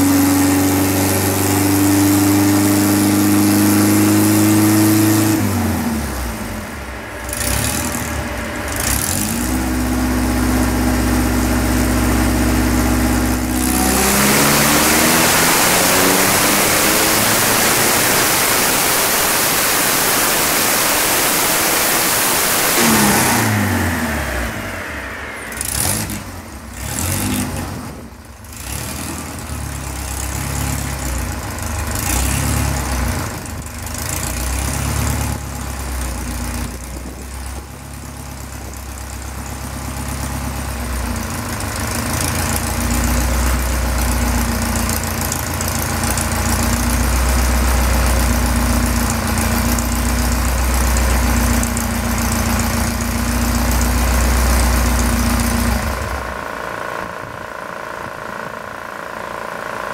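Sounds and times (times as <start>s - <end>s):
supercharged car engine on dyno: 0.0s - 59.9s.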